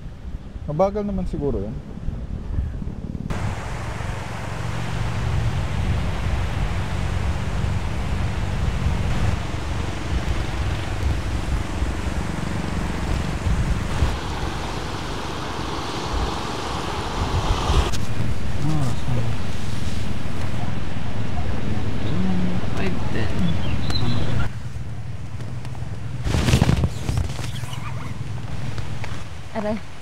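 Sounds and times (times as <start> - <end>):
gusty wind buffeting microphone: 0.0 - 30.0.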